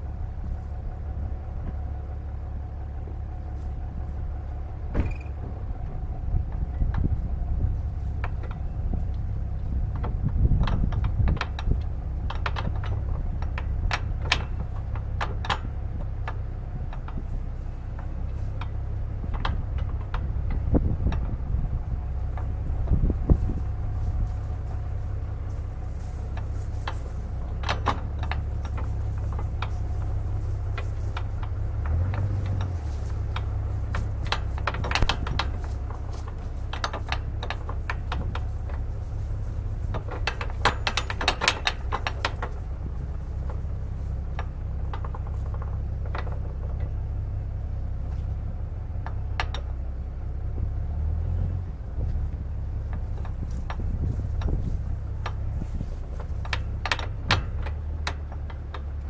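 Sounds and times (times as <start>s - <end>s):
microphone handling clicks and rattles: 0.0s - 59.0s
wind rumble on microphone: 0.0s - 59.0s.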